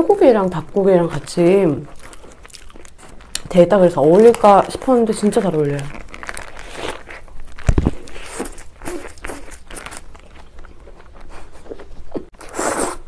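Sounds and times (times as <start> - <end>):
biting and chewing: 0.8 - 13.0.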